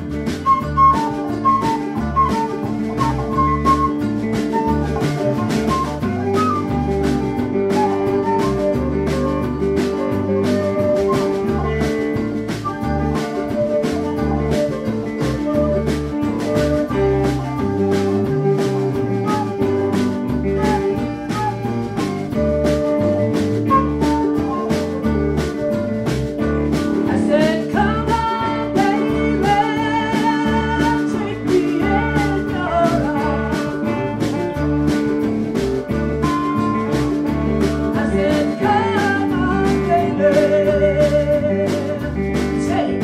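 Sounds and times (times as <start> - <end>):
bending lead melody: 0.0 - 43.0
blues band playing: 0.0 - 43.0.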